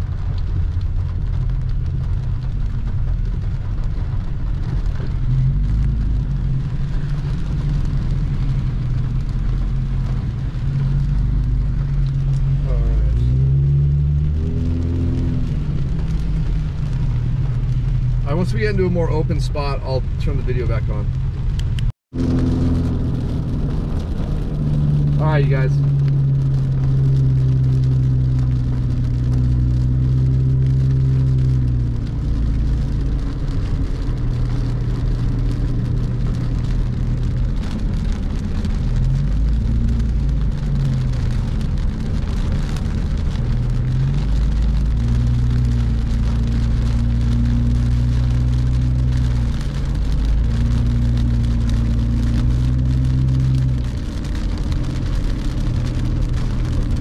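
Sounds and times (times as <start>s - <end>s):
car engine hum: 0.0s - 57.0s
heavy rain on car roof: 0.0s - 57.0s.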